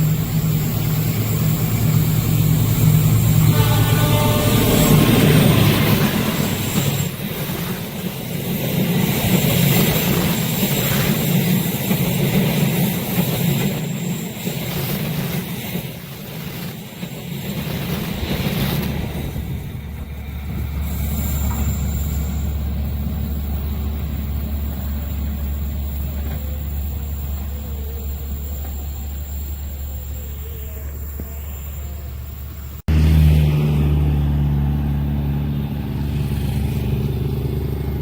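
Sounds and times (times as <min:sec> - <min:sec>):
wheels hissing on rails: 0:00.0 - 0:32.9
train rumbling past: 0:00.0 - 0:38.0.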